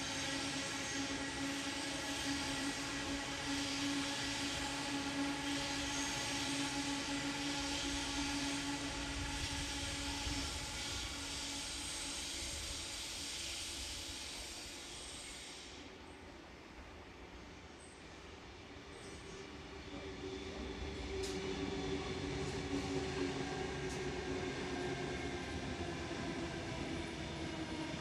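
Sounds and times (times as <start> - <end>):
electric trains humming: 0.0 - 28.0.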